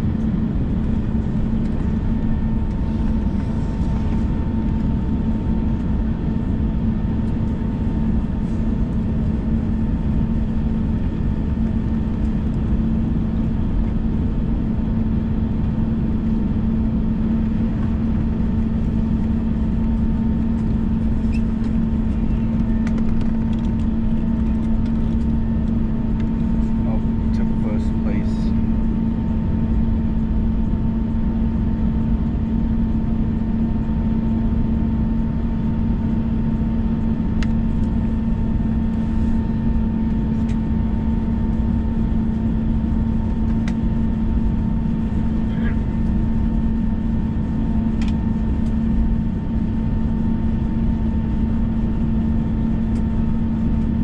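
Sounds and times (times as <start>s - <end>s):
jet engines idling in cabin: 0.0s - 54.0s.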